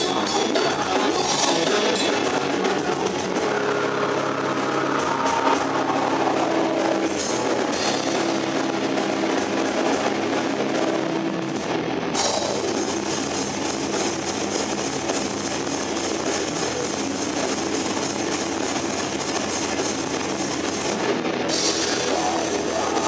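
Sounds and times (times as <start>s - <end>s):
distorted electric guitars: 0.0s - 23.0s
drum kit: 0.0s - 23.0s
fast cymbal hits: 0.0s - 23.0s.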